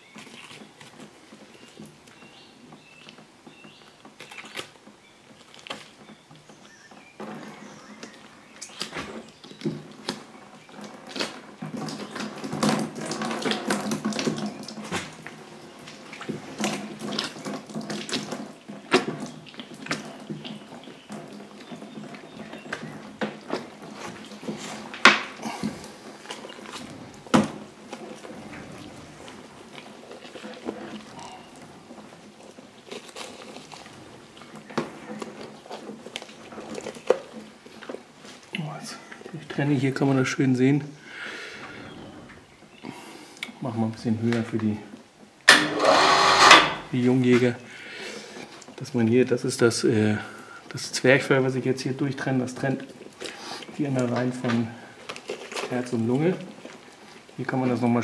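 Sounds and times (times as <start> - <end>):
wet squelching and rustling: 0.0 - 45.5, 46.8 - 58.0.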